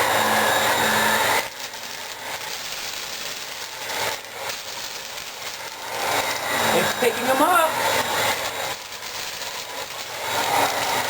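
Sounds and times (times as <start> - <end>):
vacuum cleaner whining: 0.0 - 11.0.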